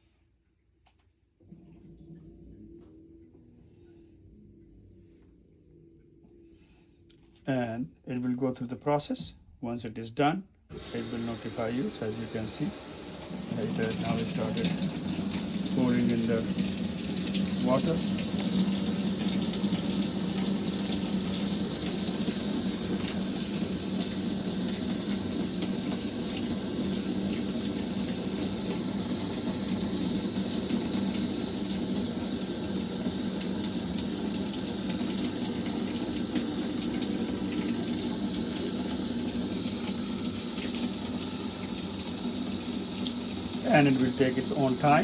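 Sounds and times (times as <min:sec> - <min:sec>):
water pouring into washing machine: 0:01.4 - 0:03.5, 0:10.7 - 0:45.0.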